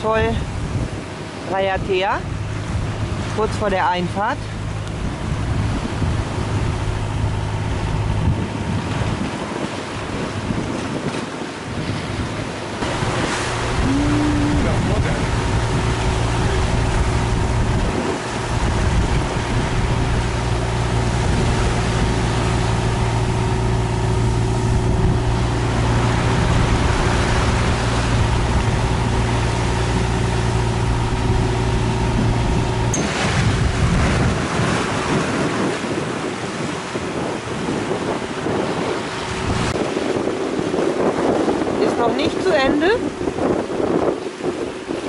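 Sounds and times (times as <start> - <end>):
boat engine humming: 0.0 - 45.0
waves splashing: 0.0 - 45.0
wind buffeting microphone: 0.0 - 45.0.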